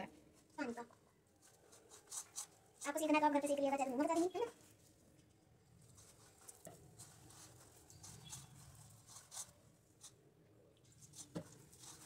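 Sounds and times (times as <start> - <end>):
hand kneading dough: 0.2 - 12.0.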